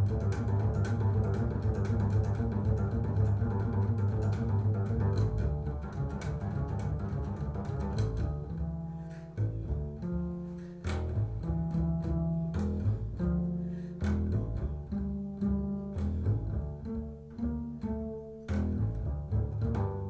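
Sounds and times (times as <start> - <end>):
double bass plucked notes: 0.0 - 20.0.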